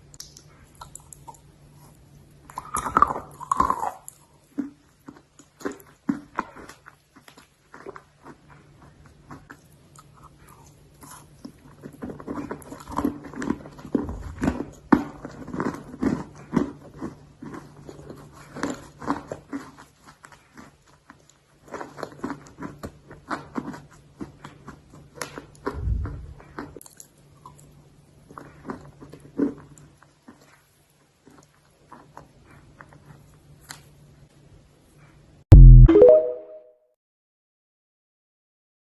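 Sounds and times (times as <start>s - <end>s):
chewing dry clay crunches: 0.0s - 34.0s.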